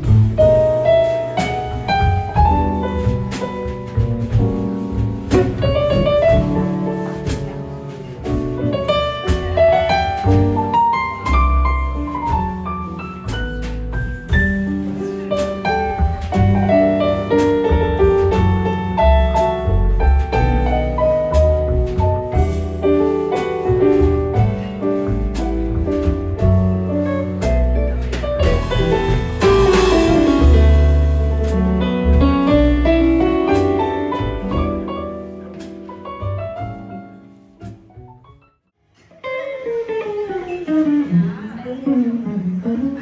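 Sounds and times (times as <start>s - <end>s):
light drums with cymbals: 0.0s - 36.8s
bass: 0.0s - 38.5s
piano: 0.0s - 43.0s.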